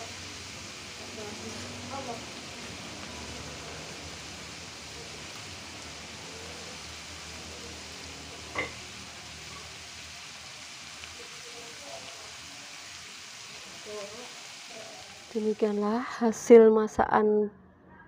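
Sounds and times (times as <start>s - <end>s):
stir-fry sizzling in a wok: 0.0s - 16.5s.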